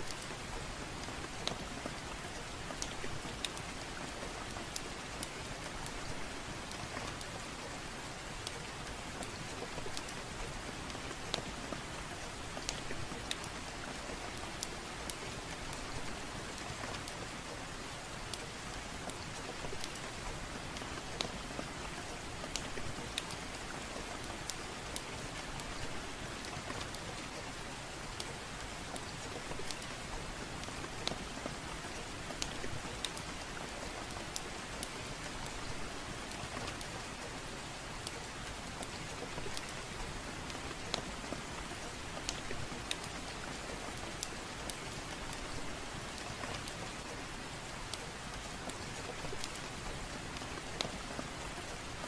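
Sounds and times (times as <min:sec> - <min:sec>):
soft rain hiss: 0:00.0 - 0:52.0
wood fire crackling: 0:00.0 - 0:52.0.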